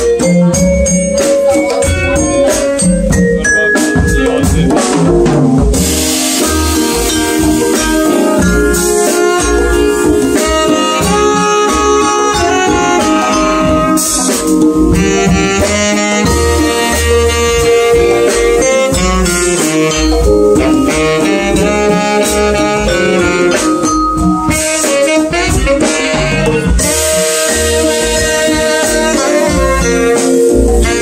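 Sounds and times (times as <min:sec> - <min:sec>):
saxophone: 0:00.0 - 0:04.9, 0:05.7 - 0:31.0
congas: 0:00.0 - 0:31.0
drum kit with cymbals: 0:00.0 - 0:31.0
vibraphone: 0:00.0 - 0:31.0.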